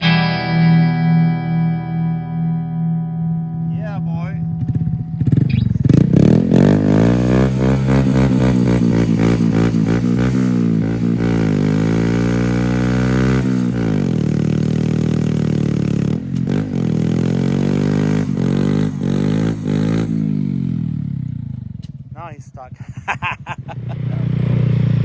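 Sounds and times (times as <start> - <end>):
motorcycle engine revving: 2.8 - 25.0.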